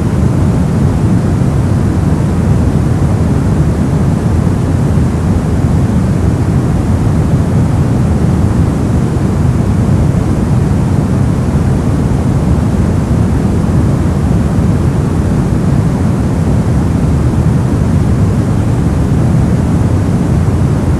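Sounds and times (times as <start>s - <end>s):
deep rumbling brown noise: 0.0s - 20.9s.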